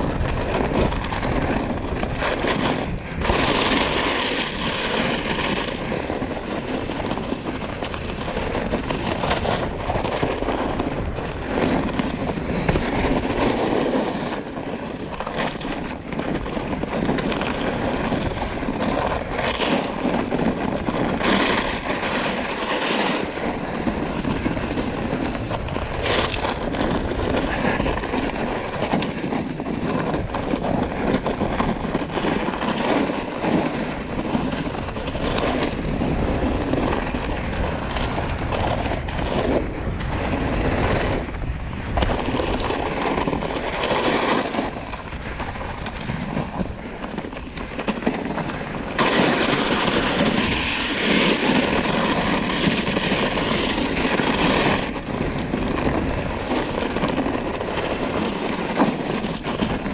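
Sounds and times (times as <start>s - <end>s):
bike tyres and frame rumbling: 0.0s - 59.9s
wind on microphone: 0.0s - 59.9s.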